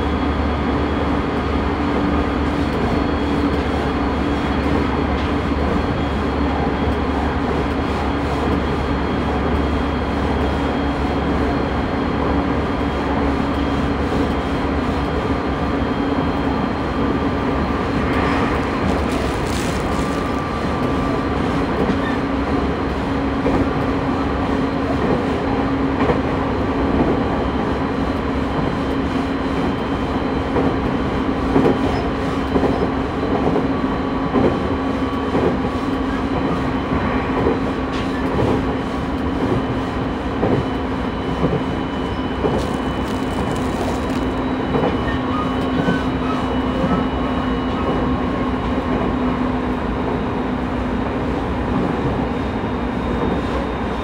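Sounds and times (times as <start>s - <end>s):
electric train running gear hum: 0.0s - 54.0s.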